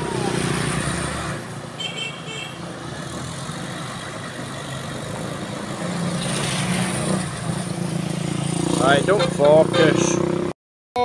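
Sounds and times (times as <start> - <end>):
vehicle engine humming: 0.0 - 10.5.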